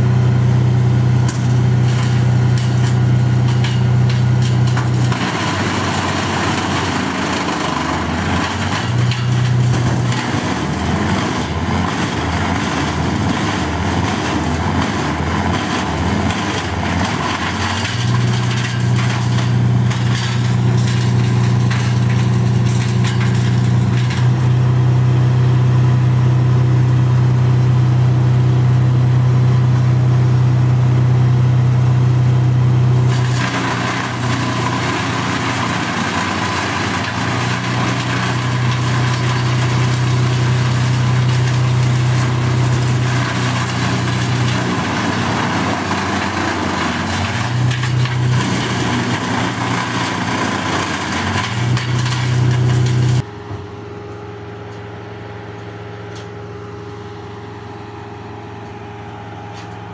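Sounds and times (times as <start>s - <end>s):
wood chipper engine hum: 0.0s - 59.9s.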